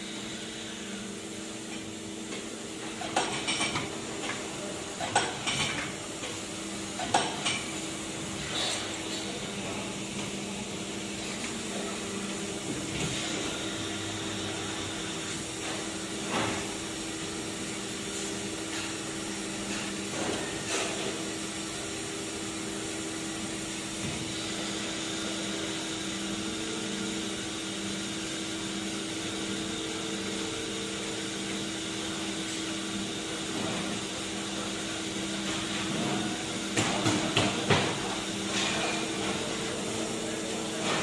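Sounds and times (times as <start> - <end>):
injection moulding machine humming: 0.0 - 41.0.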